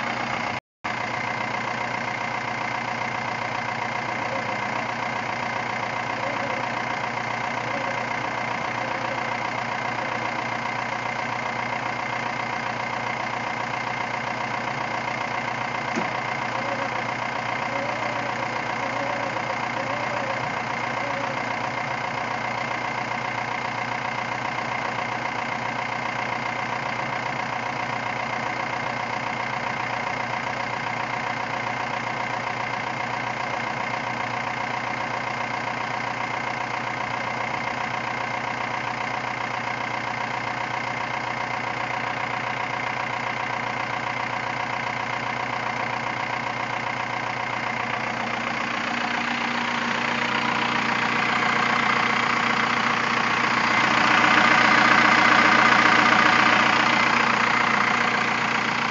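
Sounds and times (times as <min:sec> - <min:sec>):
diesel engine idling: 0:00.0 - 0:58.9
winch hauling in line: 0:00.0 - 0:58.9.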